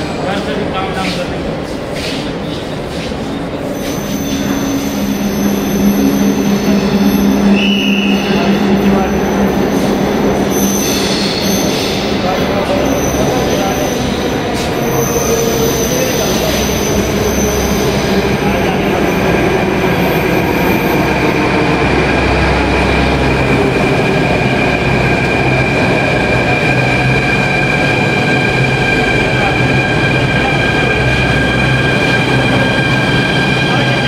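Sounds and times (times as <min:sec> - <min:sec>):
high train whine: 0:00.0 - 0:34.0
train rumble: 0:00.0 - 0:34.0.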